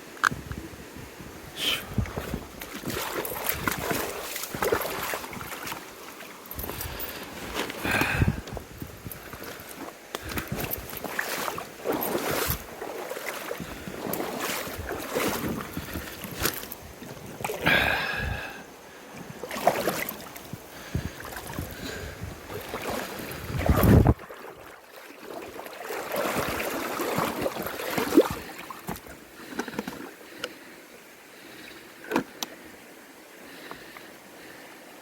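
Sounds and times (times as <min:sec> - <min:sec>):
water splashing around boat: 0:00.0 - 0:30.7.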